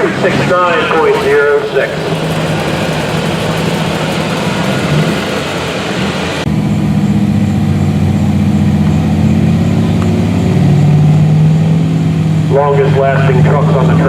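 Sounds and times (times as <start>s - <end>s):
diesel truck engine droning: 0.0s - 14.0s.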